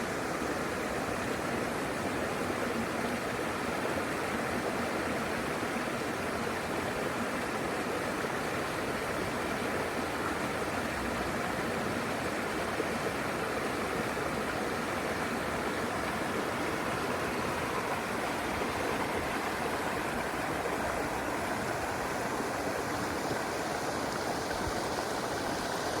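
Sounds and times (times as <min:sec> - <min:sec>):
river water over rocks: 0:00.0 - 0:26.0.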